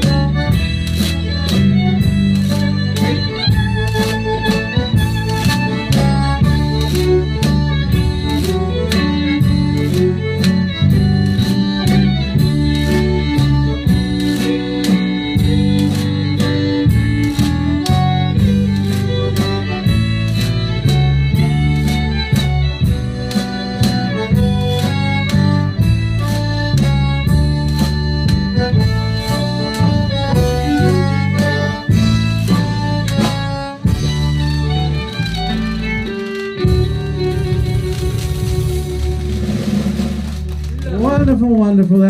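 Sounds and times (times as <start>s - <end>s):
button accordion: 0.0s - 40.8s
acoustic guitar: 0.0s - 41.6s
bass: 0.0s - 42.0s
drum beat: 0.0s - 42.0s
fiddle: 0.0s - 42.0s.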